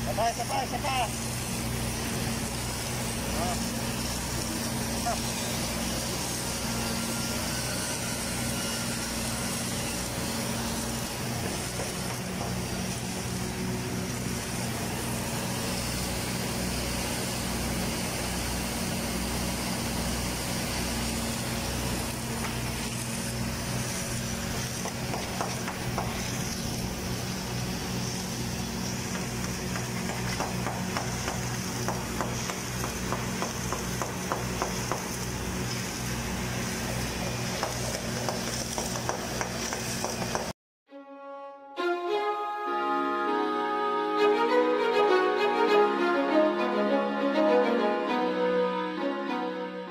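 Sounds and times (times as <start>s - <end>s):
welding machinery humming: 0.0s - 40.5s.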